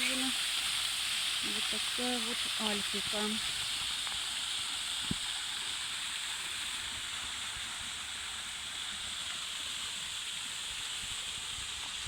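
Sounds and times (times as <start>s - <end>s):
waterfall pouring into pond: 0.0s - 12.0s.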